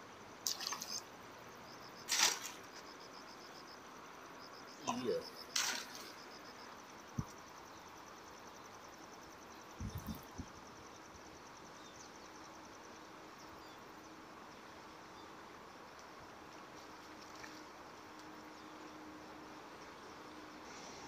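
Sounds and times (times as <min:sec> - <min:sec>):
insects trilling: 0:00.0 - 0:21.0
steady outdoor hiss: 0:00.0 - 0:21.0.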